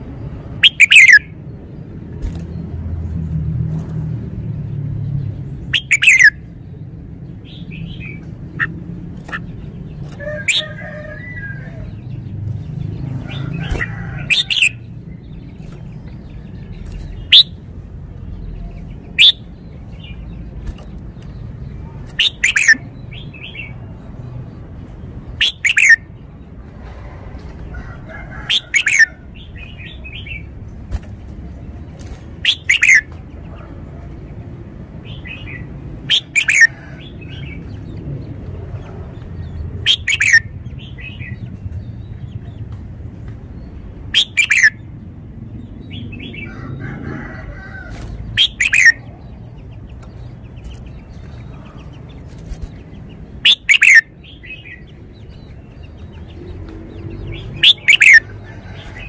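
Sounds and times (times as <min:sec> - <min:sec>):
bird singing: 0:00.6 - 0:02.7, 0:05.0 - 0:26.3, 0:28.4 - 0:33.6, 0:35.0 - 0:42.6, 0:43.4 - 0:59.0.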